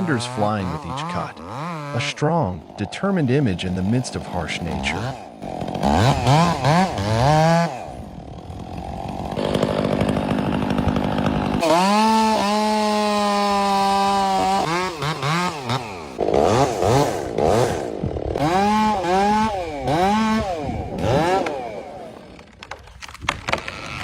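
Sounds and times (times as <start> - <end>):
chainsaw engine revving: 0.0 - 22.7, 23.4 - 24.0.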